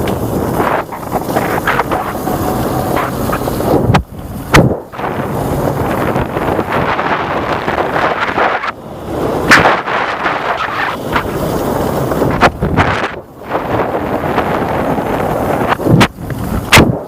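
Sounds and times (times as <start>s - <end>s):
motorcycle engine: 0.0s - 17.0s
wind rushing over microphone: 0.0s - 17.0s.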